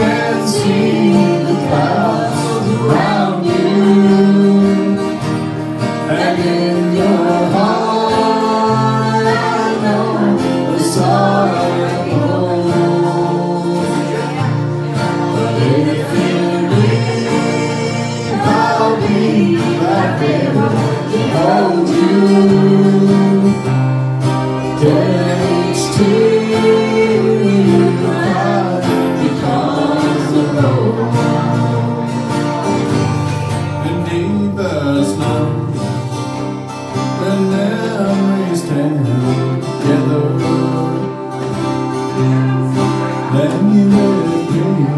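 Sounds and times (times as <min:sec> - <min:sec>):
mandolin: 0:00.0 - 0:44.9
strummed acoustic guitars: 0:00.0 - 0:44.9.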